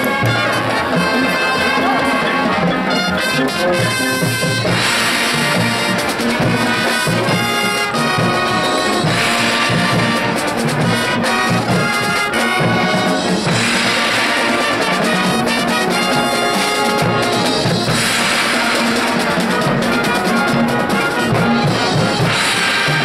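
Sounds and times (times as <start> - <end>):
brass section: 0.0 - 23.0
marching band playing: 0.0 - 23.0.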